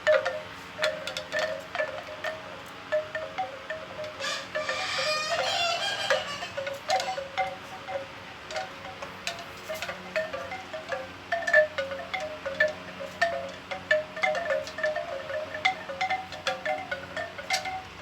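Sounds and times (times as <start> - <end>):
bamboo wind chime clattering: 0.0 - 18.0.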